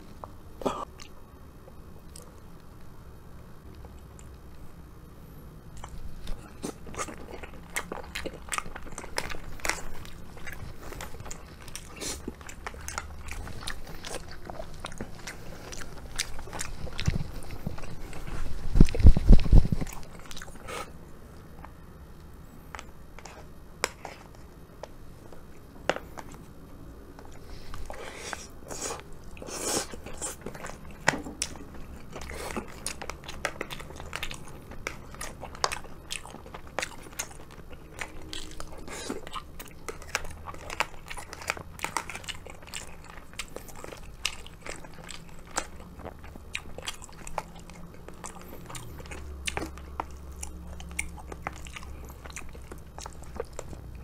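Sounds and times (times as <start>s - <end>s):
person chewing: 2.0s - 2.4s, 5.7s - 21.8s, 22.6s - 26.5s, 27.1s - 54.0s.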